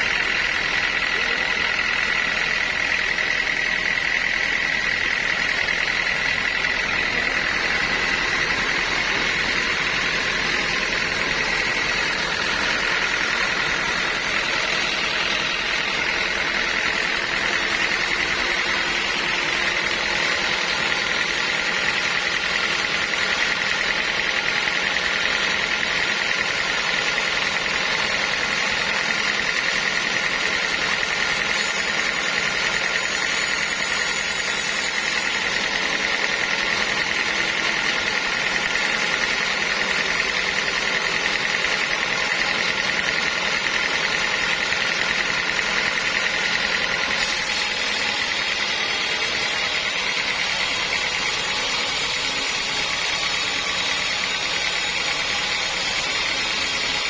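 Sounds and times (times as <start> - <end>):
sawmill machinery whining: 0.0 - 57.0.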